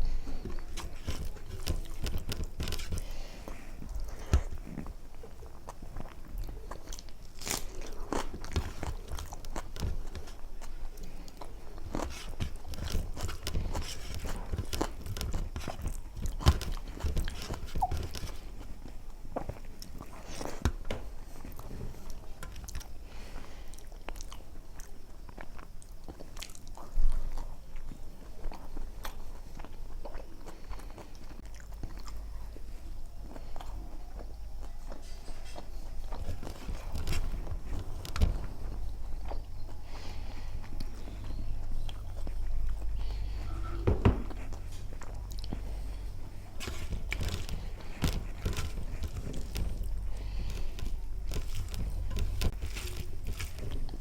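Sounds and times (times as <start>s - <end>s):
chewing with wet mouth clicks: 0.0s - 20.7s, 21.4s - 43.5s, 44.3s - 54.0s.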